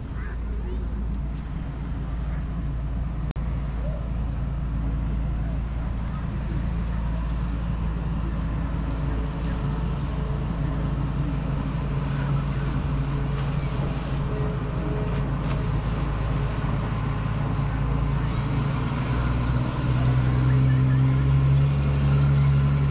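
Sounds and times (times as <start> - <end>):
traffic noise: 0.0 - 22.9
vehicle engine humming: 0.0 - 22.9.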